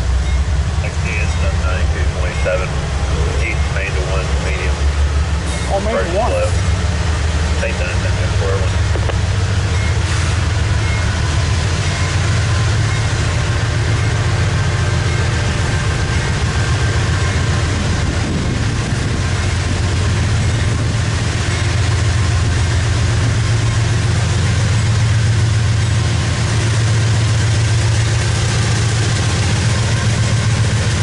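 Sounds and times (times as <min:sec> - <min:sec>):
diesel locomotive engines rumbling: 0:00.0 - 0:31.0.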